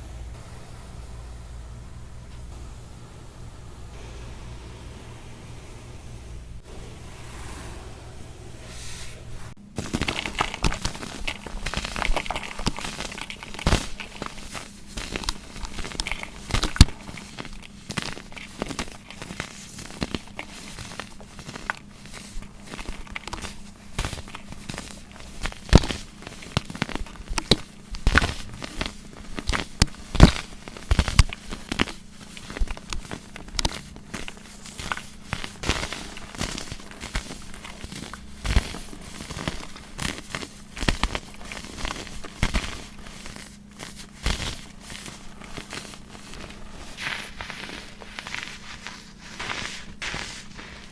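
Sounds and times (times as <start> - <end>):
baking soda crunching by hand: 9.6 - 50.9
crisp snaps: 9.7 - 50.9.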